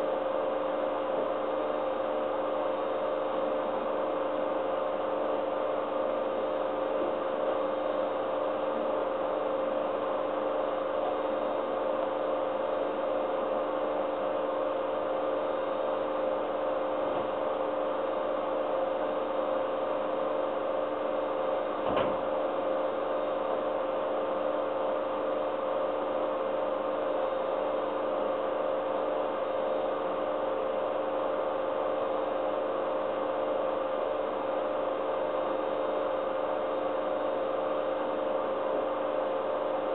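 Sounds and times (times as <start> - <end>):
aquarium equipment hum and hiss: 0.0 - 39.9.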